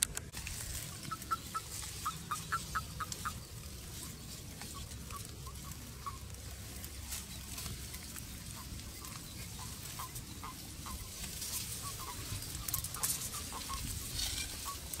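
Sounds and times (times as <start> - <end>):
low wind rumble: 0.0 - 15.0
toads calling: 0.7 - 15.0.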